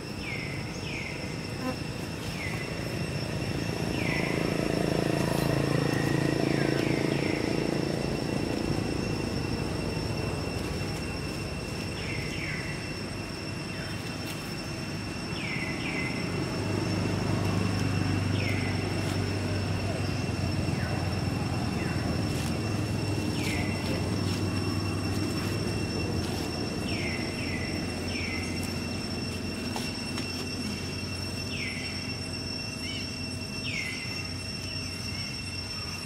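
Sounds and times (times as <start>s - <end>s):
high-pitched whine: 0.0s - 36.0s.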